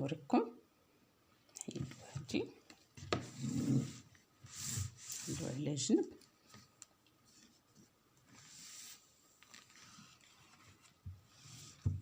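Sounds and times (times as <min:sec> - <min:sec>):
soft rustle: 0:01.8 - 0:12.0.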